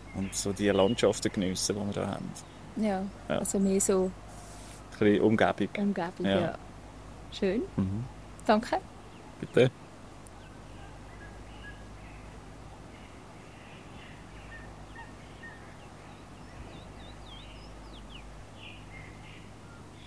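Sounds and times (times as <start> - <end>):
small bird calls: 0.0 - 20.0
steady low hum: 0.0 - 20.0.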